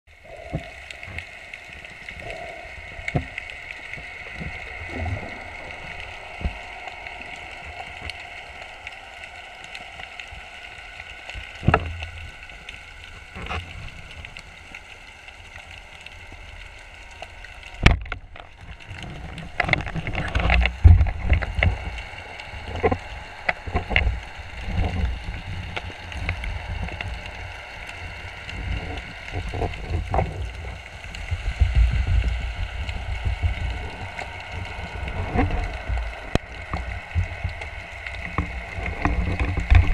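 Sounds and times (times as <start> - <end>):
underwater hiss: 0.2 - 39.9.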